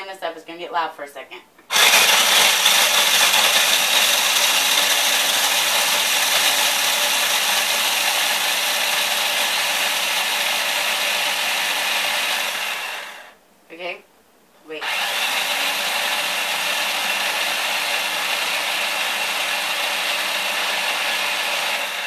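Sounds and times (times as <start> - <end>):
electric food chopper grinding: 1.7 - 13.4, 14.8 - 22.0.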